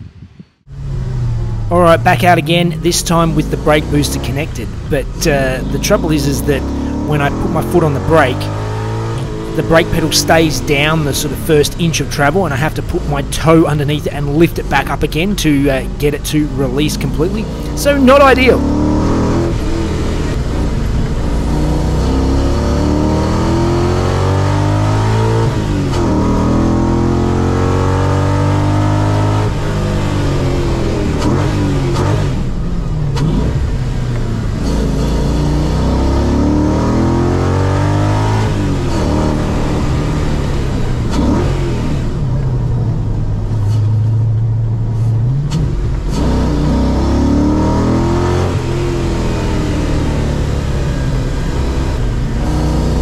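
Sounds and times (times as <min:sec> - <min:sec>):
car engine revving: 0:00.6 - 0:53.0.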